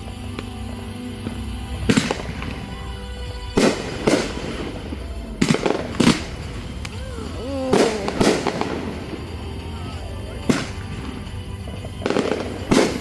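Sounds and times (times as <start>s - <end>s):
background music: 0.0s - 13.0s
fireworks bursting with sharp bangs: 0.0s - 13.0s.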